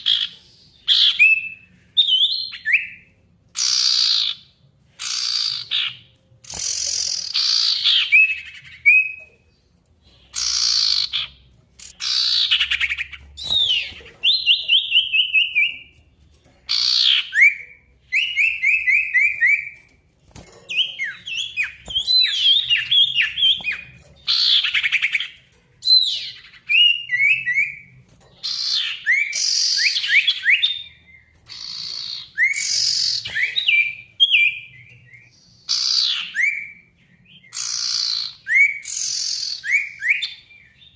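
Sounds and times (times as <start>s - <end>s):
songbird singing: 0.0s - 20.0s, 20.7s - 40.9s.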